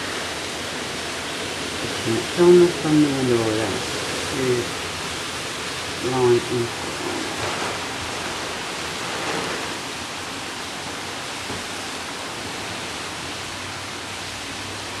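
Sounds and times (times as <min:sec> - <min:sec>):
pouring rain: 0:00.0 - 0:15.0.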